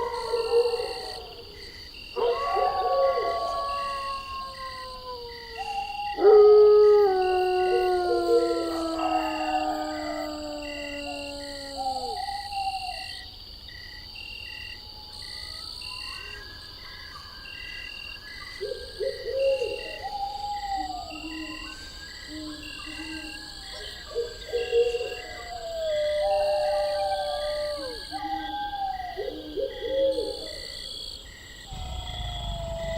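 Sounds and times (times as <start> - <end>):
insects chirping: 0.0 - 32.9.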